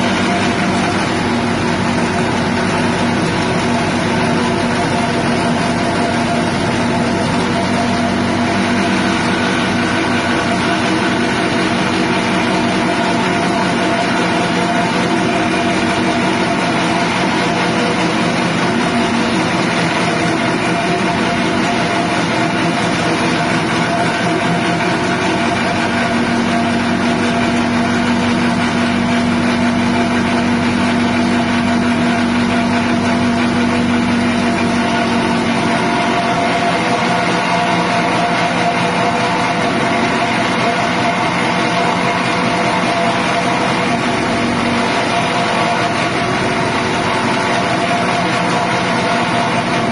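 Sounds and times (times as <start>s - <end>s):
petrol engine running: 0.0s - 49.9s.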